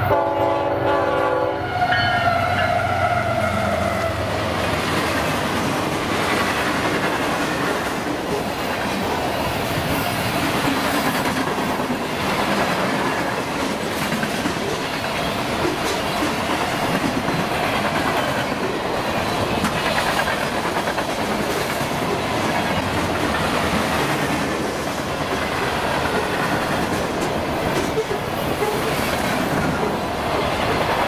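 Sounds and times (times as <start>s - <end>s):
train wheels rumbling on rail: 0.0s - 31.0s
rail clicks: 3.5s - 31.0s.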